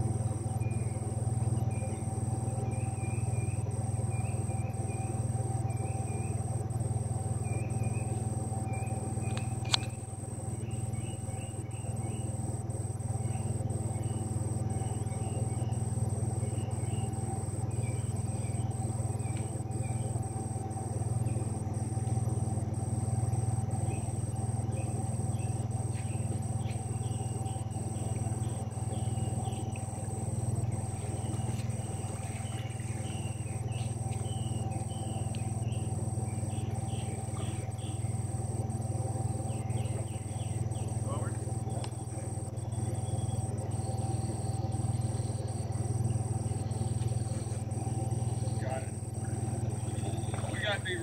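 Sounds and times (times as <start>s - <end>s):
high insect drone: 0.0s - 51.0s
steady low hum: 0.0s - 51.0s.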